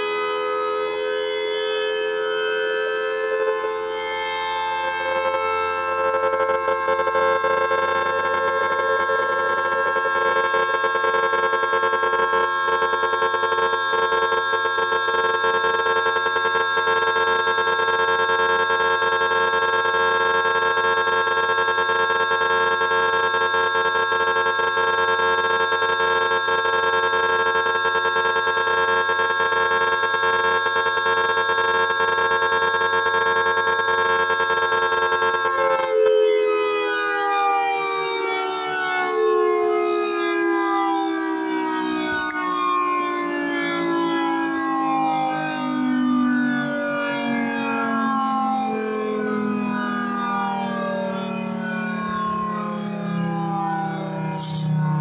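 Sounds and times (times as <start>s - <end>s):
civil defense siren: 0.0s - 55.0s.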